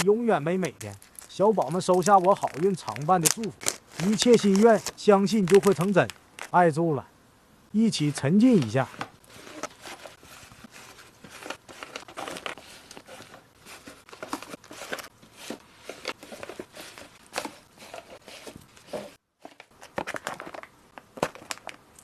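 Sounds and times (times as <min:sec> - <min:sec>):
packaging crinkling and rustling: 0:00.0 - 0:06.6, 0:08.4 - 0:22.0.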